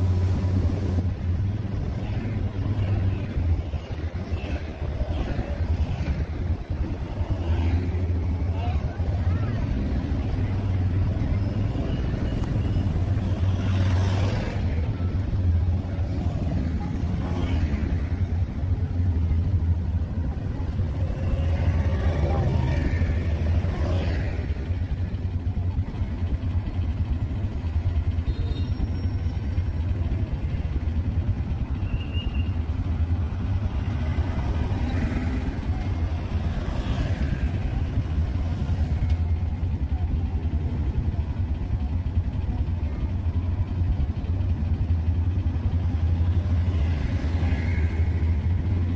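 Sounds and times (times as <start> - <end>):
low vehicle engine hum: 0.0 - 48.9
motorbikes and cars passing: 0.0 - 48.9.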